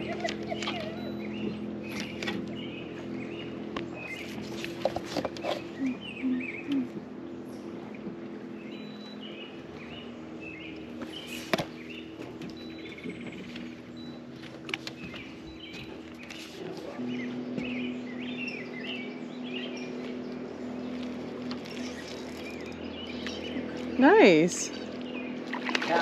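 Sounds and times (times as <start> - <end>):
small birds chirping: 0.0 - 7.8, 8.5 - 26.0
low steady hum: 0.0 - 26.0.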